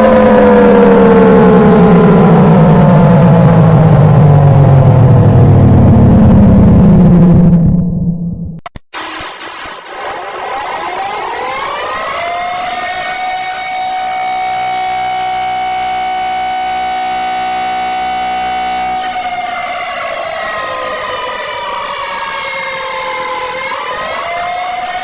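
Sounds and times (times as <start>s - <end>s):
emergency siren wailing: 0.0s - 6.4s, 9.3s - 25.0s.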